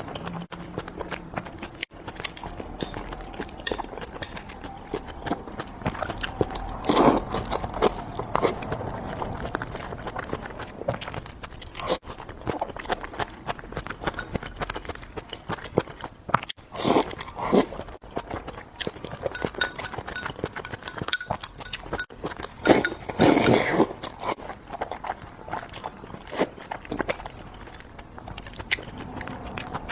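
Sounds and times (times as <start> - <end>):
chewing and crunching food: 0.0 - 29.9.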